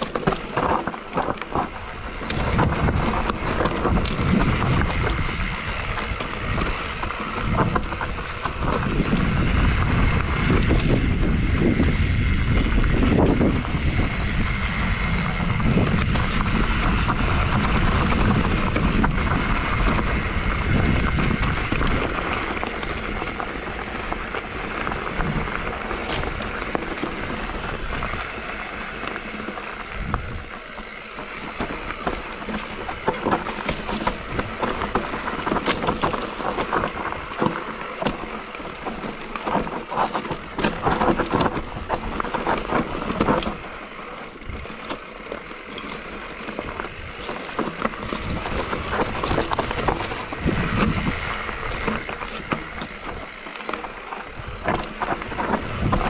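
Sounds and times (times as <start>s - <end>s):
bike rattling over rocks: 0.0s - 56.0s
wind and tyre noise: 0.0s - 56.0s.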